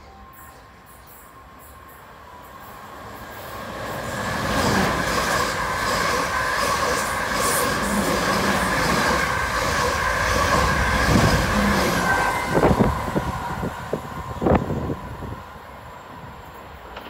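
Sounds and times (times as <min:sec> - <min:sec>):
train rumble and wheel noise: 0:00.0 - 0:17.0.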